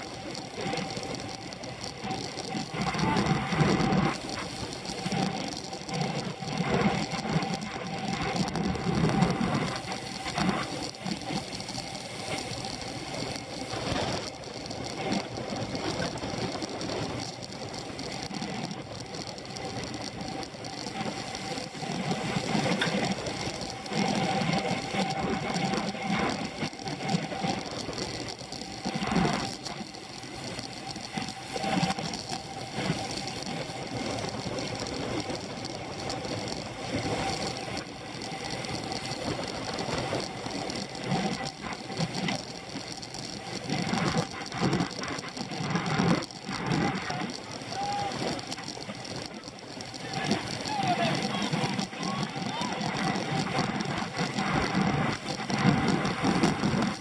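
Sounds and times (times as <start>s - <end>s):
bicycle road and drivetrain rattle: 0.0s - 57.0s.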